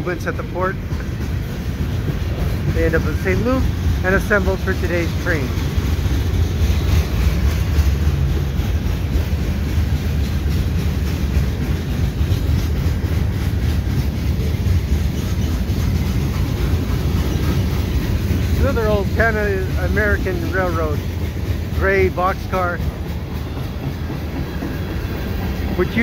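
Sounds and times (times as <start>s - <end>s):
freight cars rumbling on rails: 0.0s - 26.0s.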